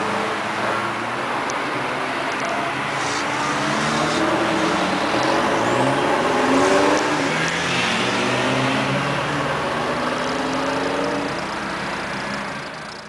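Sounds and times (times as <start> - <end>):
car engines driving past: 0.0 - 13.0.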